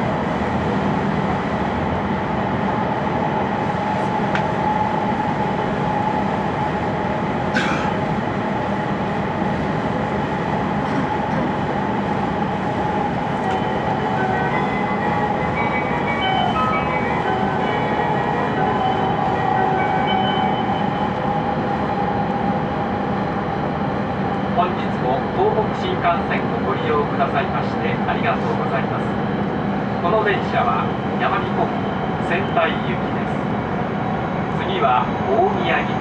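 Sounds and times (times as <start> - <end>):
train running noise rumble: 0.0 - 36.0.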